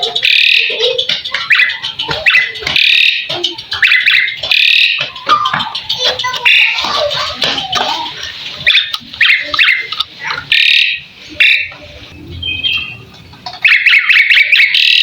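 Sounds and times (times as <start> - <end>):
bird clicks and whistled notes: 0.0 - 6.8, 8.2 - 15.0
starling harsh squawking calls: 0.0 - 15.0.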